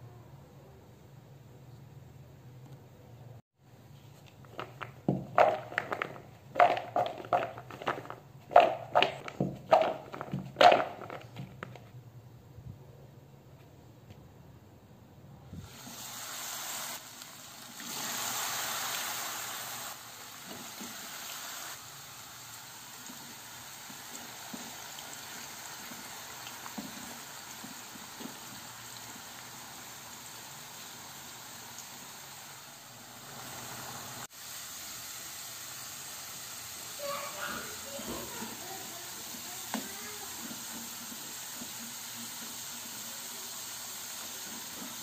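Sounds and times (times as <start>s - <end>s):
oil sizzling with small pops: 4.2s - 12.0s, 15.6s - 45.0s.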